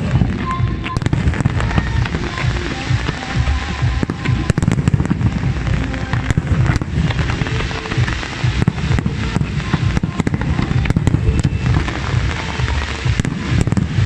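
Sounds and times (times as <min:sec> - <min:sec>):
firework pops and crackling: 0:00.0 - 0:14.0
fireworks bursting: 0:00.0 - 0:14.0.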